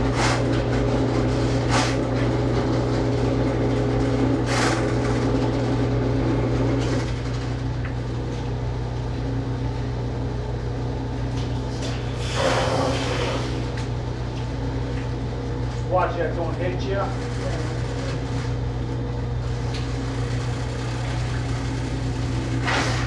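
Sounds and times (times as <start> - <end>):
drain-cleaning machine motor hum: 0.0 - 23.0.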